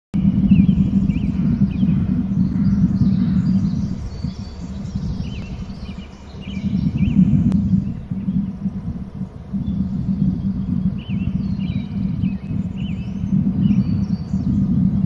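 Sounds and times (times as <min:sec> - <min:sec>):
small birds chirping: 0:00.2 - 0:15.0
steady low rumble: 0:00.2 - 0:15.0.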